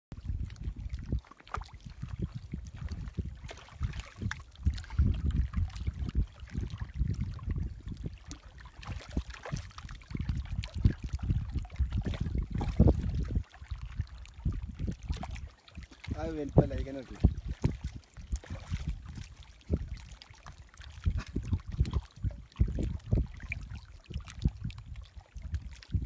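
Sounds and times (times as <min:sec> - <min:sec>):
wind buffeting microphone: 0:00.1 - 0:26.0
water lapping against rocks: 0:00.2 - 0:26.0.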